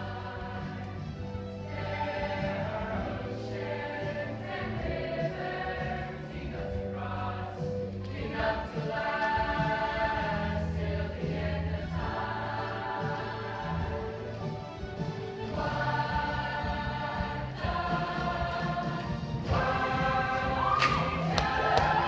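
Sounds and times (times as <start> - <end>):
bass accompaniment: 0.0 - 22.0
mixed choir singing: 0.0 - 22.0.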